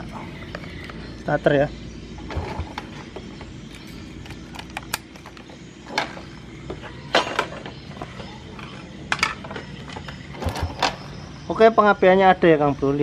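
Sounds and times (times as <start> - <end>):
motorcycle electric starter whirring: 0.0 - 12.9.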